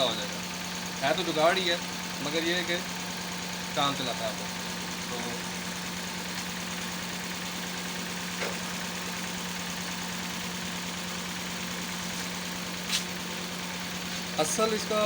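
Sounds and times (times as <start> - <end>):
misfiring engine idling: 0.0 - 15.0.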